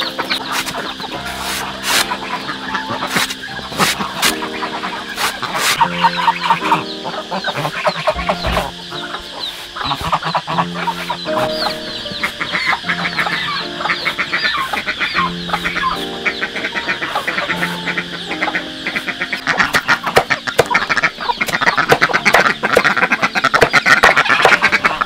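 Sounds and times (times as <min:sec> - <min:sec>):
chickens clucking: 0:00.0 - 0:25.0
music of held notes: 0:00.0 - 0:25.0.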